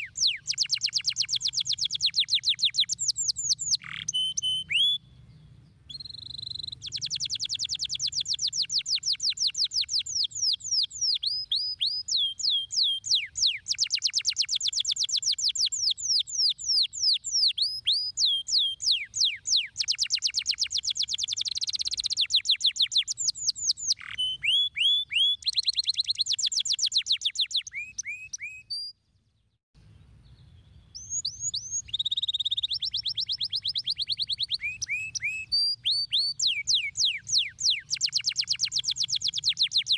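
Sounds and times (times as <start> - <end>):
canary singing trills: 0.0 - 29.0, 30.2 - 39.9.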